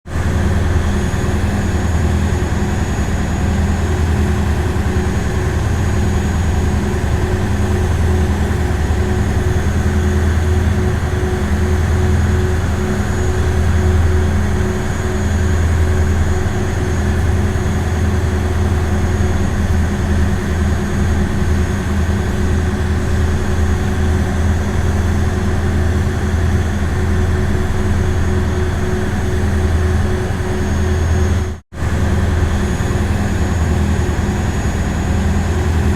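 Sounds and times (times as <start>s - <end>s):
ferry engine low drone: 0.1s - 35.9s.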